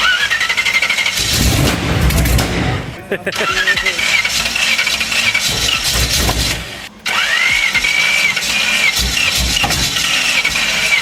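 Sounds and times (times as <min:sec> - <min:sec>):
engine starting: 0:00.0 - 0:11.0.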